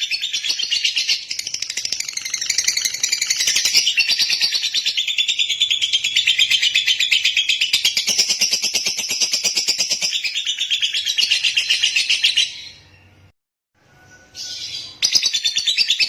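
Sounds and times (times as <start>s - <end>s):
bird chirping rapidly: 0.0s - 13.3s, 14.3s - 16.0s.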